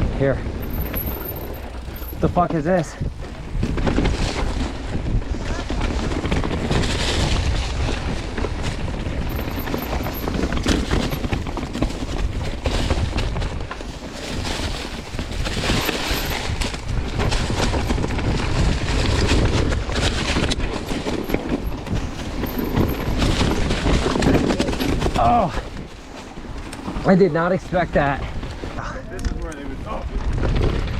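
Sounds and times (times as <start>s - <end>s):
wind buffeting microphone: 0.0s - 30.9s
bike and chain rattling: 0.1s - 30.8s.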